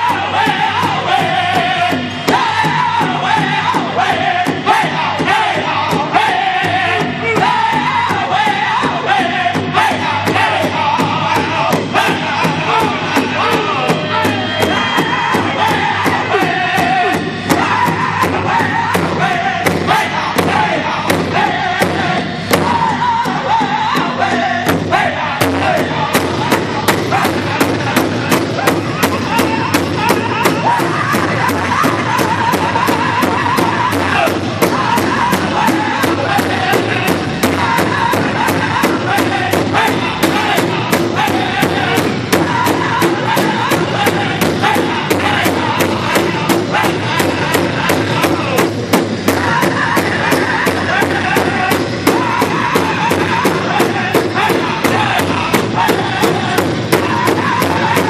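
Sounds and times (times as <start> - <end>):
group singing in high voices: 0.0 - 58.0
large drum steady beat: 0.0 - 58.0.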